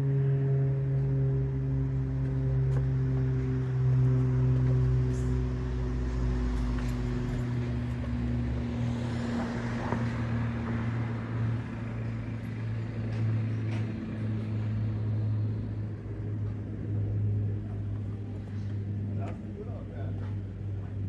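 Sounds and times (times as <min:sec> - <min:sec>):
turboprop engines droning overhead: 0:00.0 - 0:21.0.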